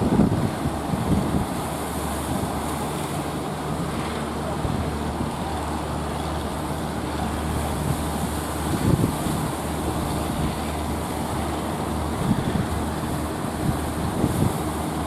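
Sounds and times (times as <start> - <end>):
boat engine running: 0.0 - 15.0
surf hiss: 0.0 - 15.0
wind: 0.0 - 15.0.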